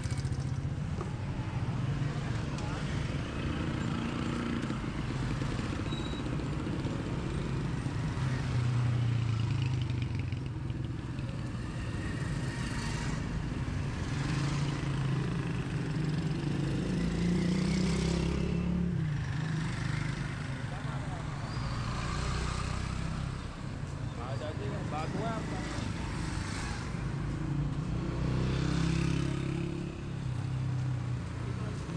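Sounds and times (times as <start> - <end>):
street clatter: 0.0 - 31.9
vehicle engines passing: 0.0 - 31.9.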